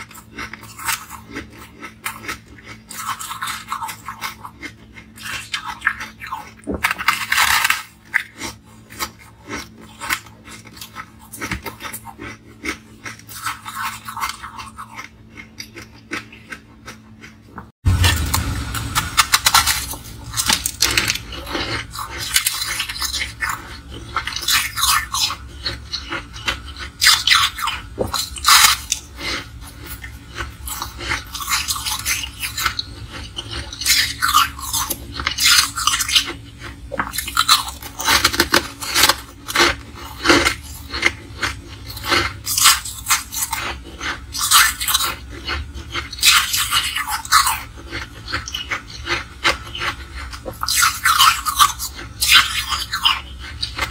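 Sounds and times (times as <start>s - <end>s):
ice being chewed crunching: 0.0s - 53.9s.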